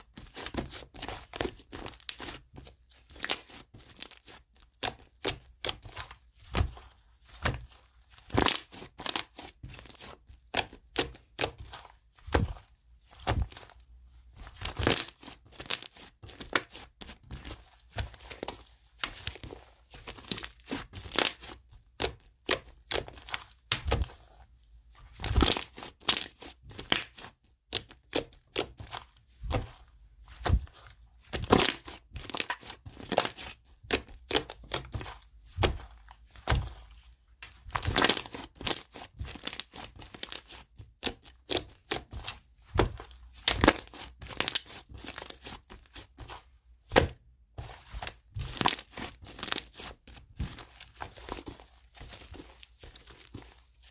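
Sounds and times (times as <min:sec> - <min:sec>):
slime squelching and crackling: 0:00.0 - 0:53.9.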